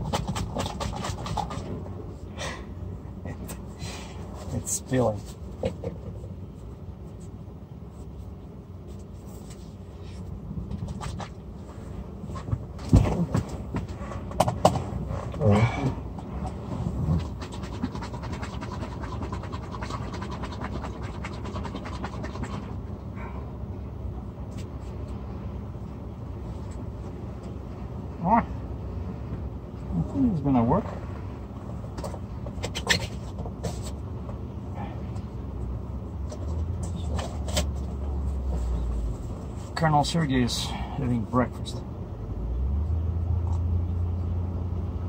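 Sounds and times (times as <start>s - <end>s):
truck cab hum: 0.0s - 45.0s.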